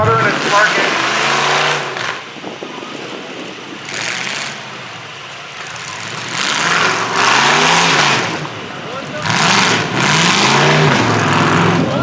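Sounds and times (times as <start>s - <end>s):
engines roaring: 0.0s - 12.0s.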